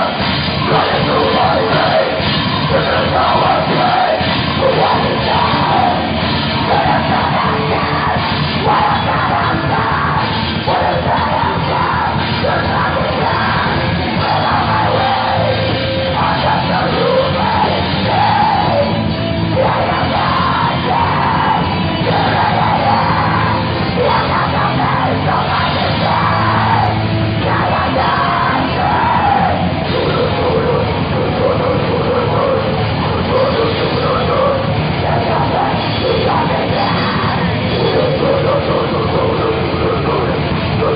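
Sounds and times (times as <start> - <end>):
heavy metal band playing: 0.0 - 40.9
person yelling vocals: 0.0 - 40.9.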